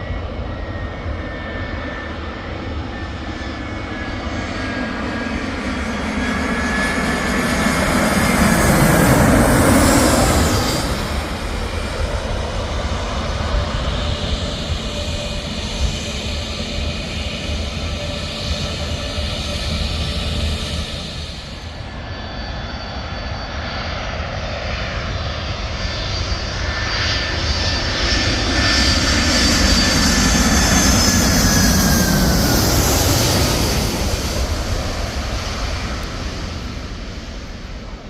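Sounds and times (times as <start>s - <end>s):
airliner engines passing overhead: 0.0s - 38.0s.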